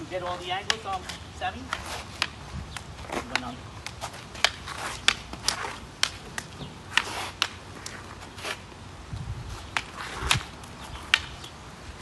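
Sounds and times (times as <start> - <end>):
wooden sticks clacking: 0.3 - 8.4, 9.7 - 11.5.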